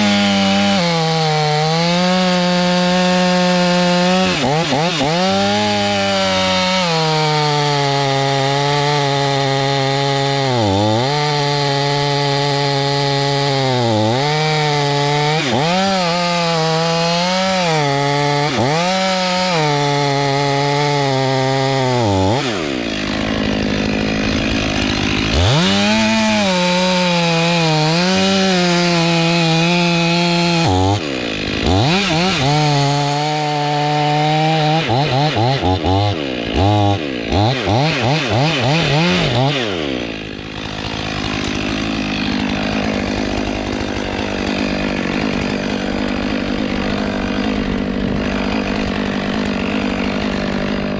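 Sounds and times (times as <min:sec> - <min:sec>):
chainsaw running at high revs: 0:00.0 - 0:50.9.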